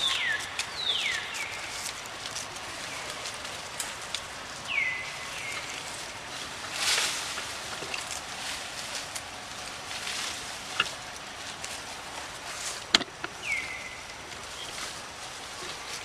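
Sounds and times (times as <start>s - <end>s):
forest hiss: 0.0s - 16.0s
short rustle: 0.0s - 16.0s.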